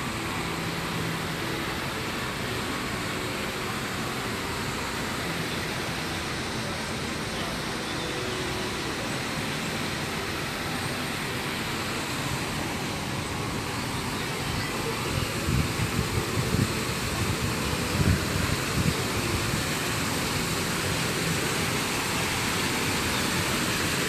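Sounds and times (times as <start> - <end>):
city background din: 0.0 - 24.0.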